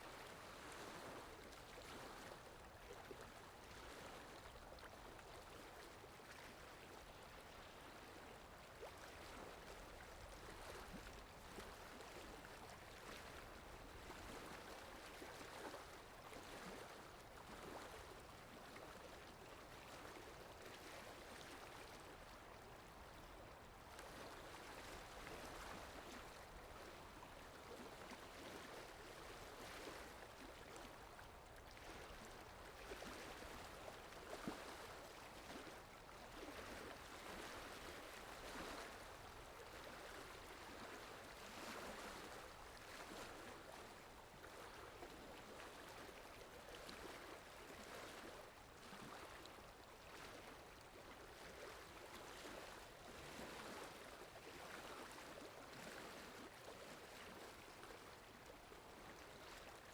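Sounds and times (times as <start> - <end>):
water flowing and lapping: 0.0 - 59.9.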